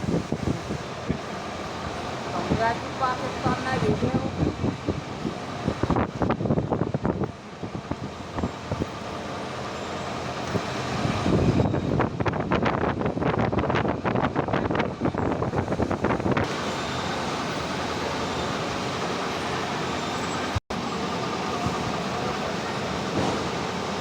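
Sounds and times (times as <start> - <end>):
machinery rumbling and clattering: 0.0 - 24.0.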